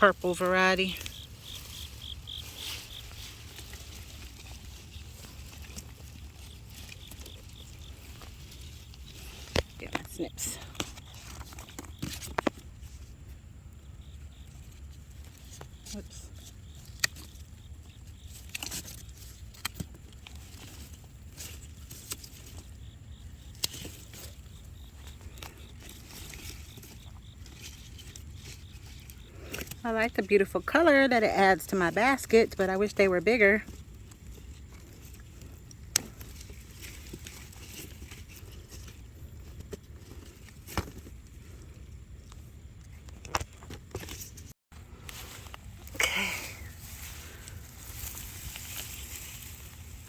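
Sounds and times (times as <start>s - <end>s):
dry straw rustling: 0.0s - 42.0s, 43.9s - 50.0s
cricket chirping: 0.0s - 44.3s
low outdoor rumble: 0.0s - 50.0s.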